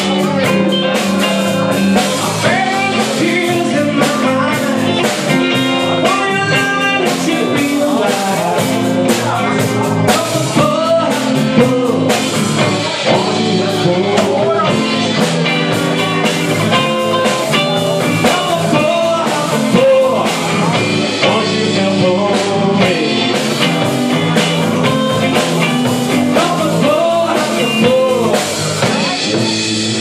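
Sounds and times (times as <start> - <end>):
bass guitar: 0.0 - 30.0
drum kit: 0.0 - 30.0
electric guitar lead: 0.0 - 30.0.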